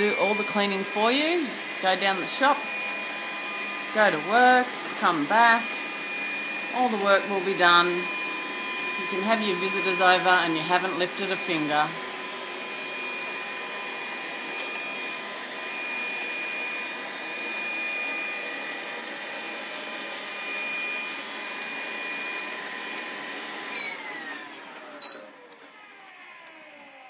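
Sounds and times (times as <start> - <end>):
robot vacuum motor whine: 0.0 - 27.0.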